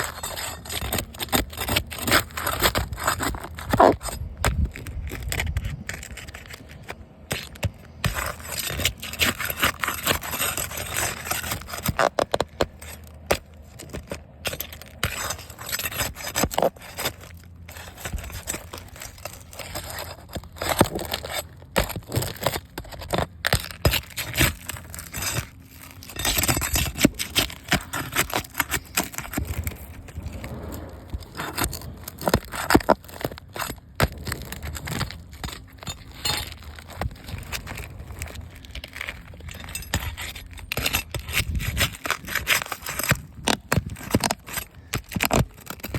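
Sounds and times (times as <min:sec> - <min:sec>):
scraping on a hard surface: 0:00.0 - 0:45.9.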